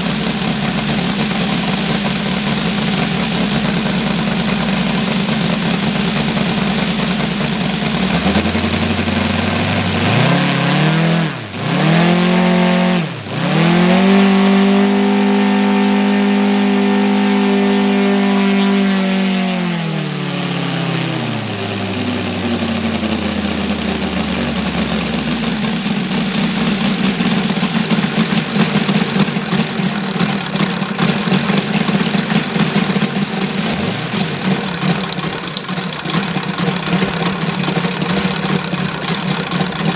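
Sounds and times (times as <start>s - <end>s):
model radial engine revving: 0.0s - 39.9s.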